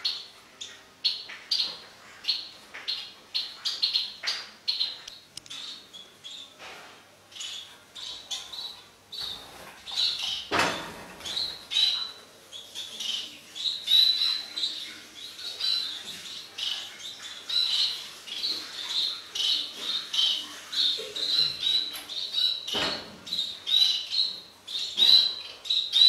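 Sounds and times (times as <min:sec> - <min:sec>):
birds chirping and twittering: 0:00.0 - 0:26.0.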